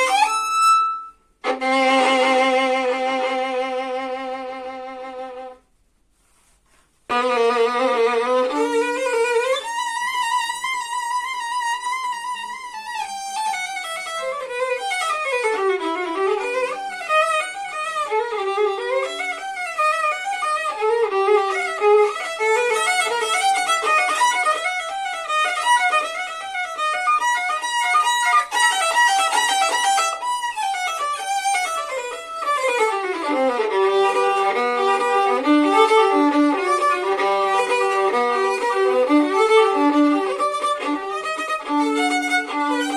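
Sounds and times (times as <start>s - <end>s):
violin playing: 0.0s - 5.7s, 7.0s - 42.9s.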